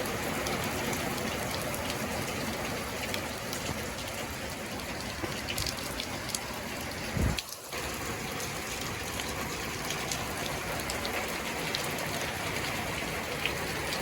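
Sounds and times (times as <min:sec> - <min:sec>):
hail and rain pattering: 0:00.0 - 0:14.0.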